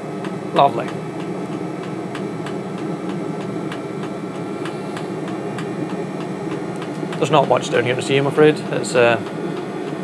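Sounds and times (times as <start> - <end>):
heater burner and fan hum: 0.0 - 10.0.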